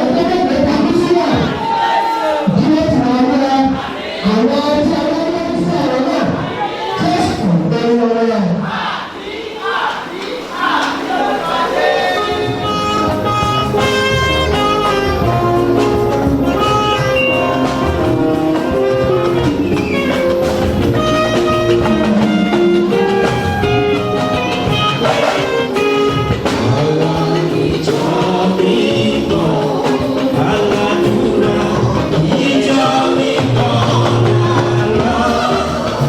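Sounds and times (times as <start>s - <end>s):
band music: 0.0s - 36.0s.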